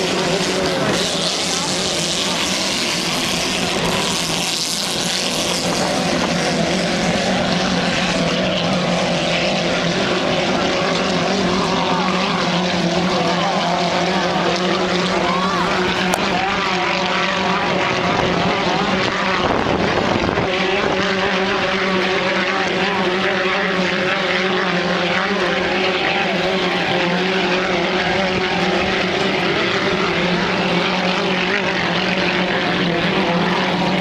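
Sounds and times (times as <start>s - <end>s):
boat engines droning: 0.0s - 34.0s.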